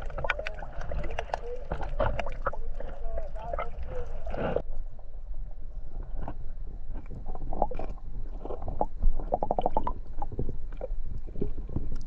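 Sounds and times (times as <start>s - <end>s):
water sloshing and gurgling: 0.0s - 12.0s.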